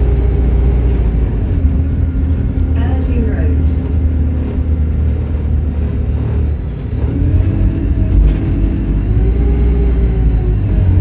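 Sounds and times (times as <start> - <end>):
bus diesel engine accelerating: 0.0 - 11.0.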